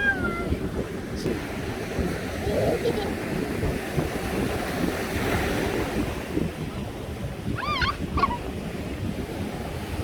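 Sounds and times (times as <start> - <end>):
sea surf: 0.0 - 10.0
wind buffeting microphone: 0.0 - 10.0.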